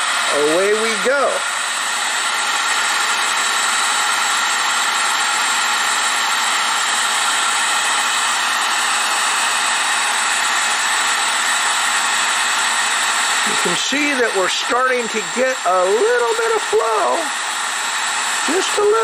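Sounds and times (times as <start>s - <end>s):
heat gun blowing air: 0.0s - 19.0s.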